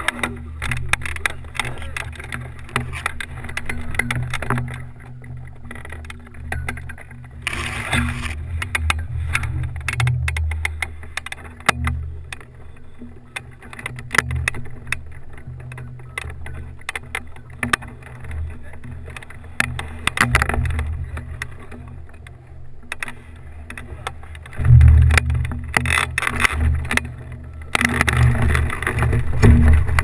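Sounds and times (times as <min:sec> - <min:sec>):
sharp clicks and rattles: 0:00.0 - 0:30.0.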